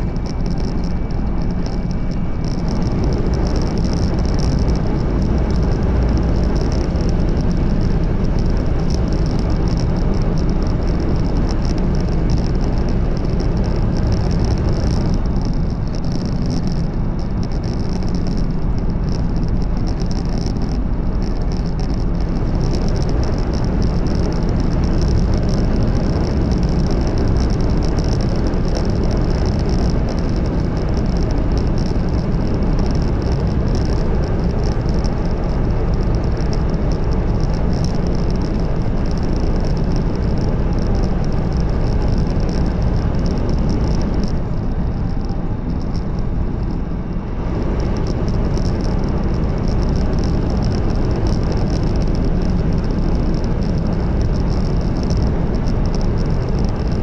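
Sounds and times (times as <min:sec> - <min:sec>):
train rumble and rushing air: 0:00.0 - 0:57.0.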